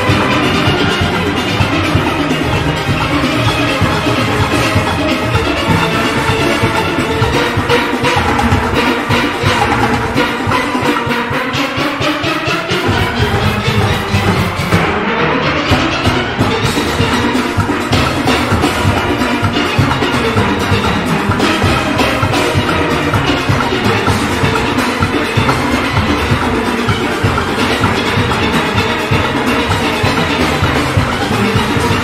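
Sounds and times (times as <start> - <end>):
drum and percussion beat: 0.0 - 32.0
steelpans playing fast tune: 0.0 - 32.0.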